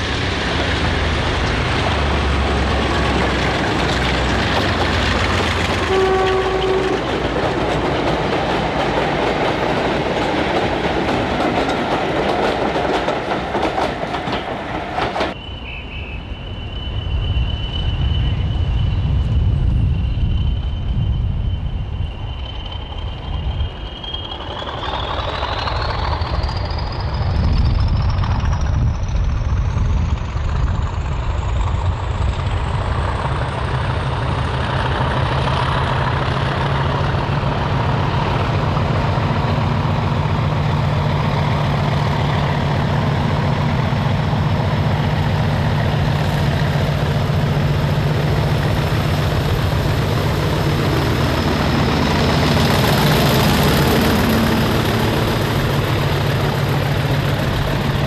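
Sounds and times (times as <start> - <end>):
diesel locomotive engine working hard: 0.0 - 58.0.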